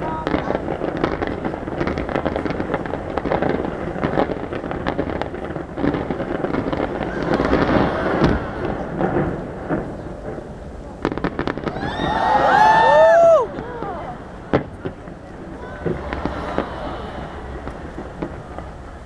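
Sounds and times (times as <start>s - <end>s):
fireworks bursts and crackling: 0.0s - 19.0s.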